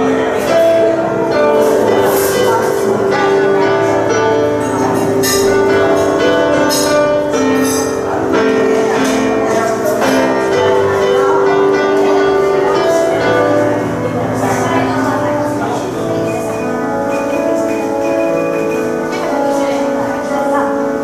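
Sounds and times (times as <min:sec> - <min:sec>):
grand piano playing: 0:00.0 - 0:21.0.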